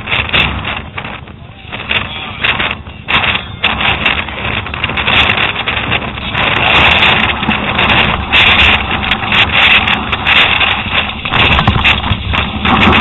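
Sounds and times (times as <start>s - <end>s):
tyres rolling over dirt and rock: 0.0s - 13.0s
wind buffeting microphone: 0.0s - 13.0s.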